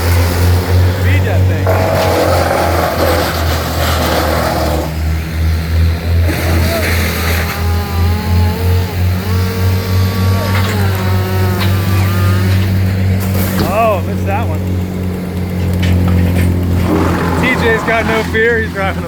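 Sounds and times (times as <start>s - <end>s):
branches grinding in chipper: 0.0s - 19.0s
wood chipper engine running: 0.0s - 19.0s.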